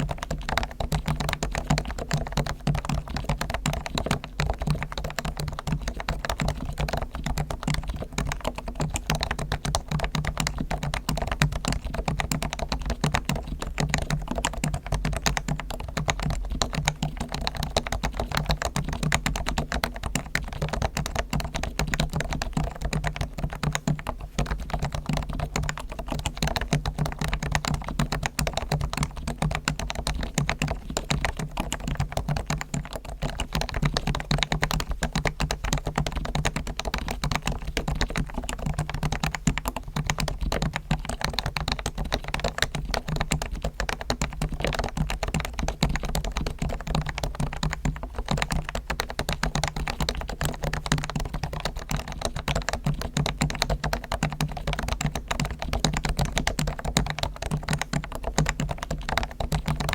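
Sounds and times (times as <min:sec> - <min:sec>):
fast typing on keyboard: 0:00.0 - 0:59.9.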